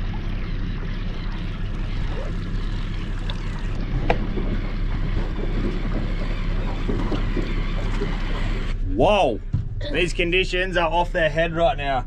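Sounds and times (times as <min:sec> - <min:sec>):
water and wind noise: 0:00.0 - 0:11.8
outboard motor running: 0:00.0 - 0:12.0.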